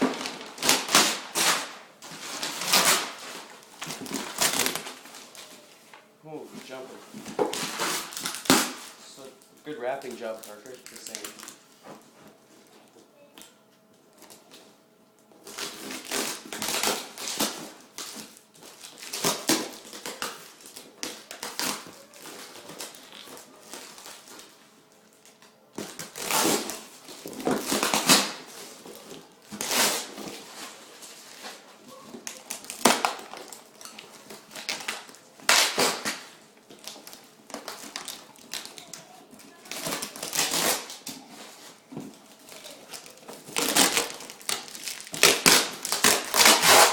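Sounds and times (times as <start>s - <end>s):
packaging wrap crinkling: 0.0s - 5.8s, 7.4s - 11.7s, 15.4s - 46.9s.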